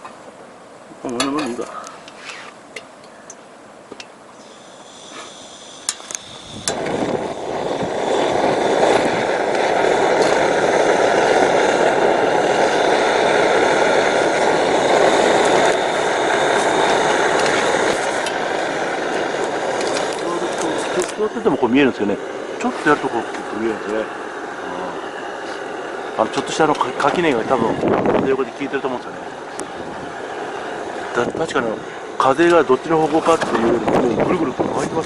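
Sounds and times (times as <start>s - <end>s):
gas burner rushing: 0.0s - 35.0s
gas hissing: 0.0s - 35.0s.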